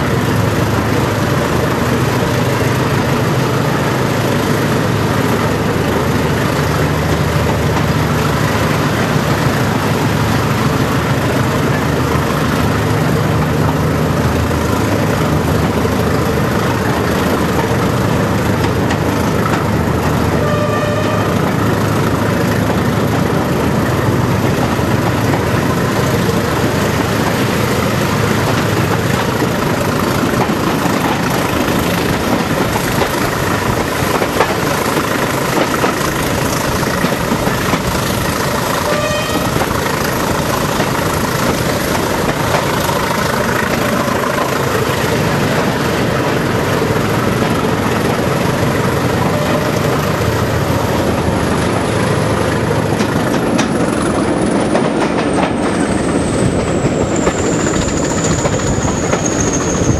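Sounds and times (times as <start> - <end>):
diesel locomotive engine working hard: 0.0 - 59.9
train wheel and rail noise: 0.0 - 59.9.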